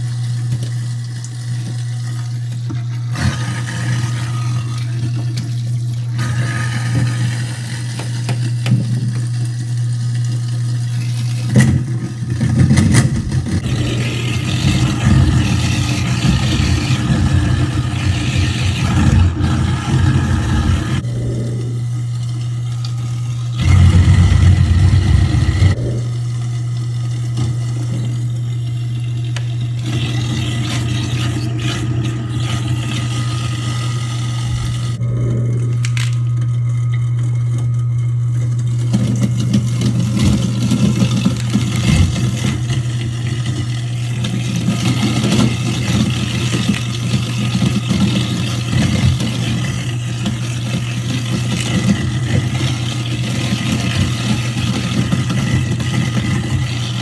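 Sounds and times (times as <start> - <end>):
garbage disposal grinding: 0.0 - 57.0.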